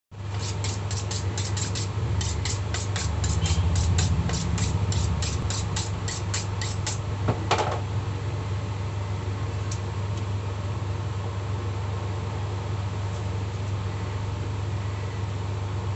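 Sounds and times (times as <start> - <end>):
low machine hum: 0.1 - 15.9.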